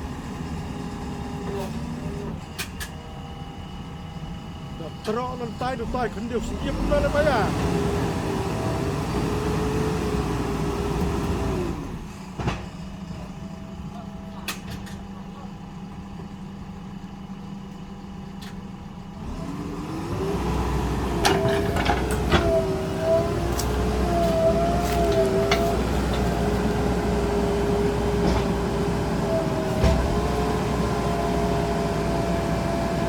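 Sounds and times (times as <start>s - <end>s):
diesel engine revving and idling: 0.0s - 33.0s.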